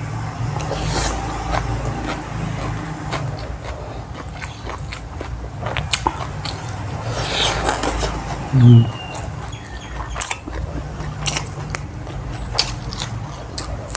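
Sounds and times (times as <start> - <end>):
person chewing and crunching: 0.5 - 13.9.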